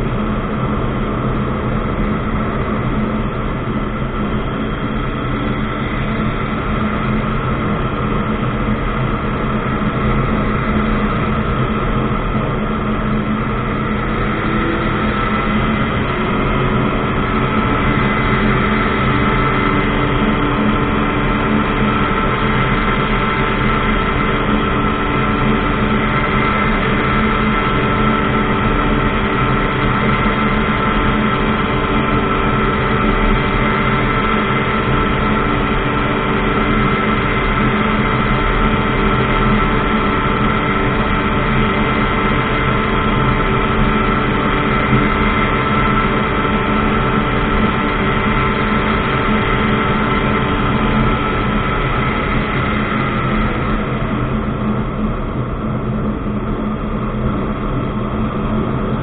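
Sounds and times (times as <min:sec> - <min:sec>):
ultralight aircraft engine and propeller: 0:00.0 - 0:59.0.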